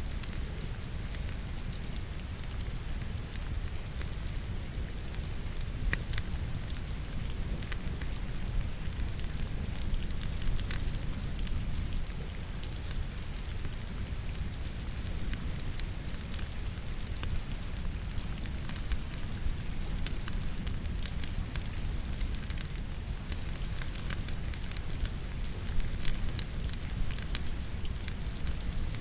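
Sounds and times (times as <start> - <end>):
falling rain hiss: 0.0 - 29.0
logs crackling in fireplace: 0.0 - 29.0.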